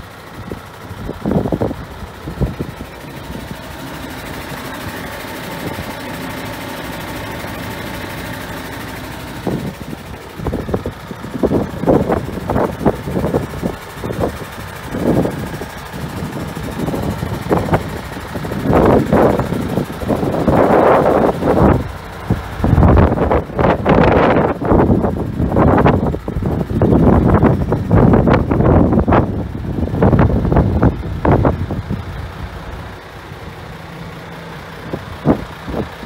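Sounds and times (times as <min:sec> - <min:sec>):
diesel truck engine idling: 0:00.0 - 0:36.0
wind buffeting microphone: 0:00.3 - 0:06.0, 0:09.3 - 0:32.6, 0:34.9 - 0:36.0.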